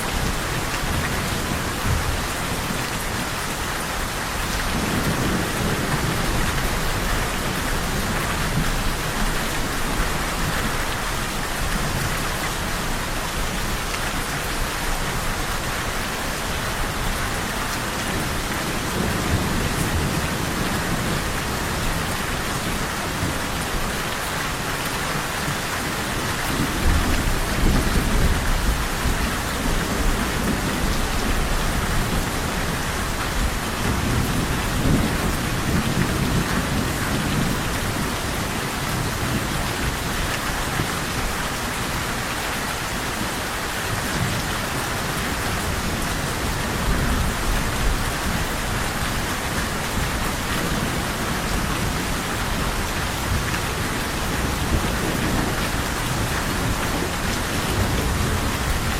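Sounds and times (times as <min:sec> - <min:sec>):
heavy rain hiss: 0:00.0 - 0:58.9.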